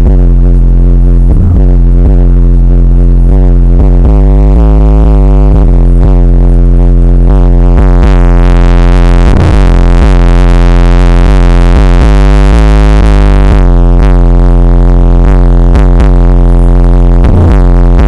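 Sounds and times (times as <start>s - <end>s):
loud rap music with deep bass: 0.0s - 18.0s.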